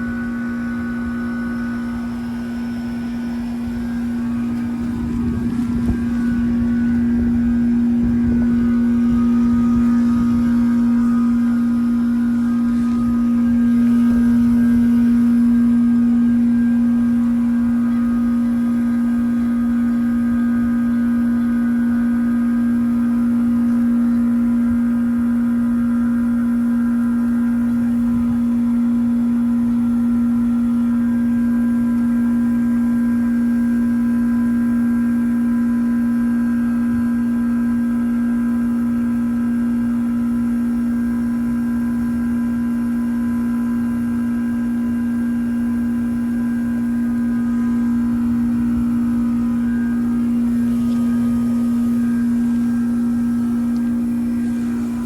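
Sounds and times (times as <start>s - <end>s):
heat pump humming: 0.0s - 55.0s.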